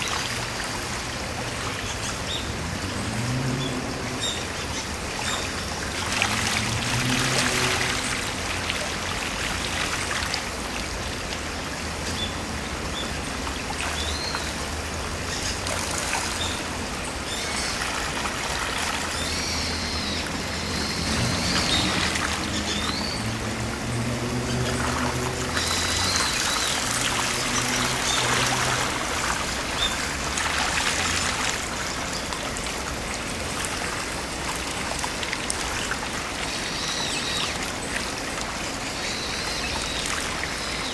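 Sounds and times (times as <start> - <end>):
stream flowing over gravel: 0.0 - 40.9.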